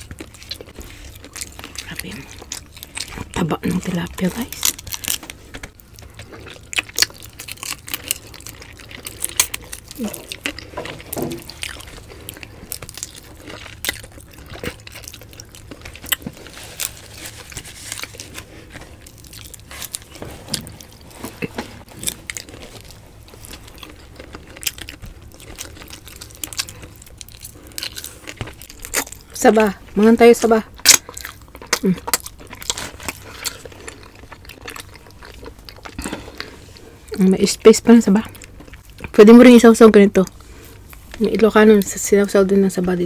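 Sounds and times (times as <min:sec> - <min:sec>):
chewing and lip-smacking: 0:00.0 - 0:42.0.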